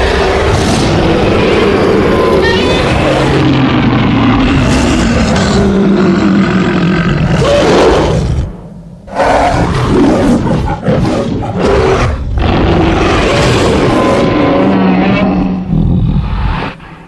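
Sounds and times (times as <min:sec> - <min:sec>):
monster roar: 0:00.0 - 0:17.0.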